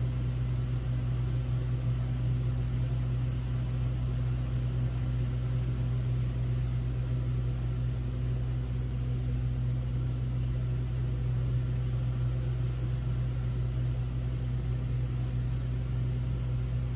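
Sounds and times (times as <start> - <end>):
air conditioner humming: 0.0 - 16.9.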